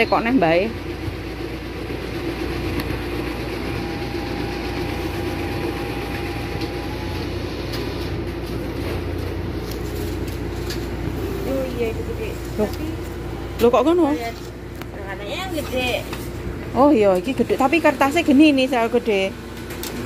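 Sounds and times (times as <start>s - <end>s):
printer whirring and humming: 0.0s - 20.0s.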